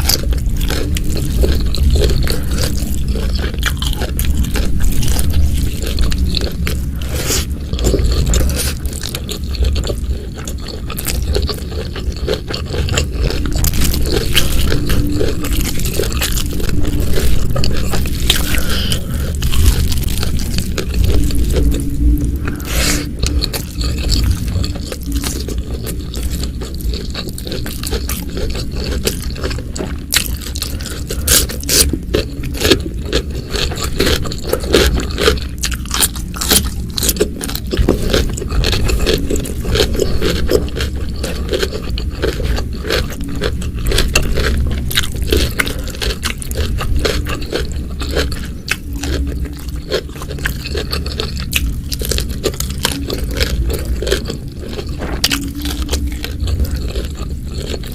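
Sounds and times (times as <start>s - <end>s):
crunchy chewing: 0.0s - 57.9s.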